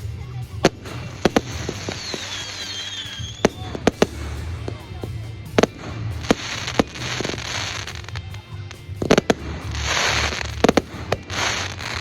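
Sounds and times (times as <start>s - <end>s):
fireworks hissing crackle: 0.0s - 12.0s
fireworks bangs: 0.6s - 12.0s.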